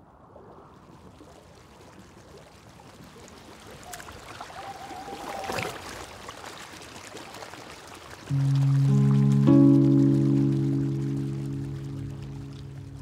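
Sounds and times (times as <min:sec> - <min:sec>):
rushing water: 0:00.7 - 0:13.0.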